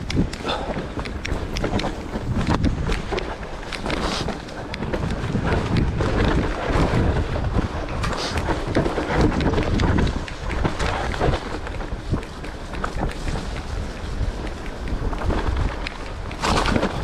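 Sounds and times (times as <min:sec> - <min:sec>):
bike rattling and knocking: 0:00.0 - 0:17.0
wind buffeting microphone: 0:00.0 - 0:17.0.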